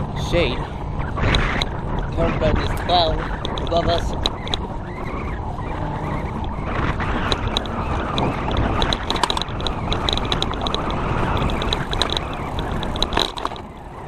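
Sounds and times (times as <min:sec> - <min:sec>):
tyres rumbling on road: 0:00.0 - 0:14.0
wind on microphone: 0:00.0 - 0:14.0
bicycle light ticking: 0:01.0 - 0:14.0.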